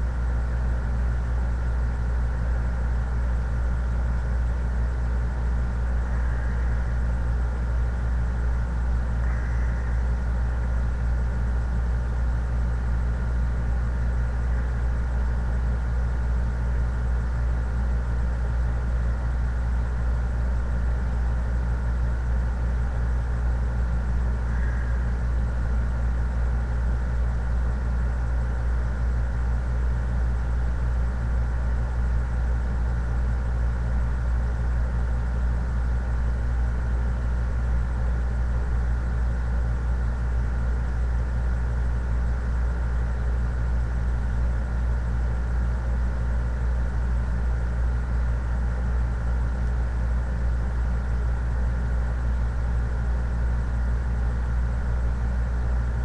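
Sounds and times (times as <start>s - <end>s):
faint high whine: 0.0s - 56.0s
steady low hum: 0.0s - 56.0s.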